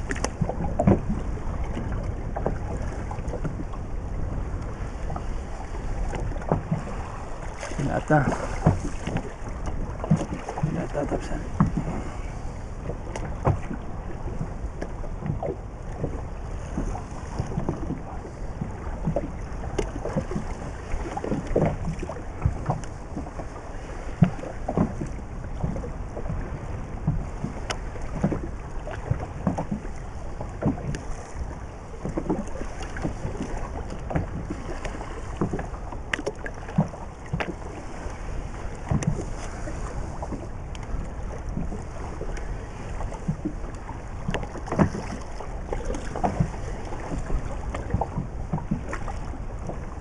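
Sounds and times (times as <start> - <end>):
small waves slapping boat hull: 0.0 - 50.0
wind noise on microphone: 0.0 - 50.0.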